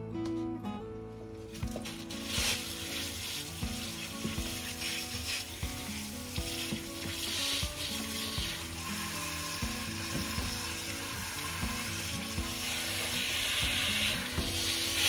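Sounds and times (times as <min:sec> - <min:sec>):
guitar music: 0:00.0 - 0:15.0
water spraying from hose nozzle: 0:01.5 - 0:15.0.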